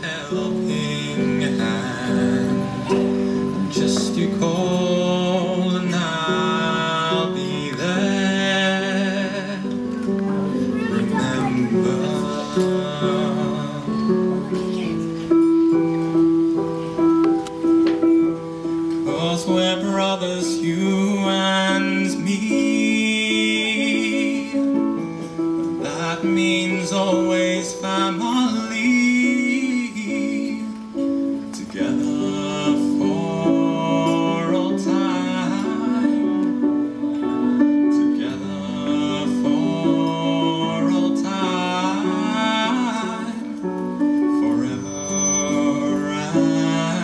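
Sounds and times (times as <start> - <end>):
boy singing into microphone: 0.0 - 15.2, 19.0 - 47.0
instrumental accompaniment: 0.0 - 47.0.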